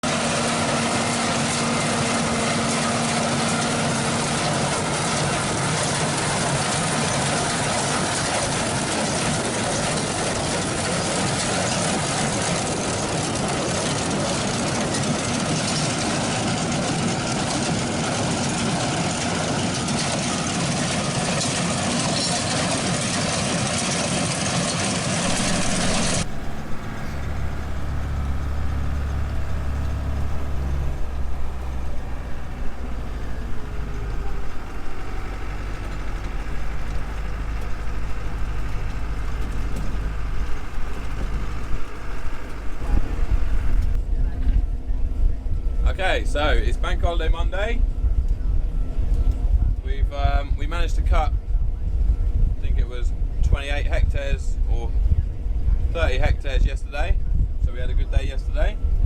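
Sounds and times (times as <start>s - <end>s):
heavy farm machinery running: 0.0s - 59.0s.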